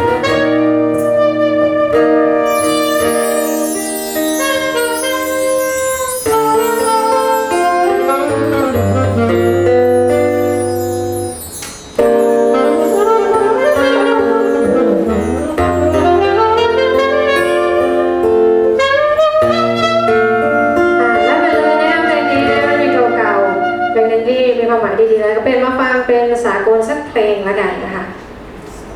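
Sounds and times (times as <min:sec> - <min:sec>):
band playing a slow song: 0:00.0 - 0:23.7.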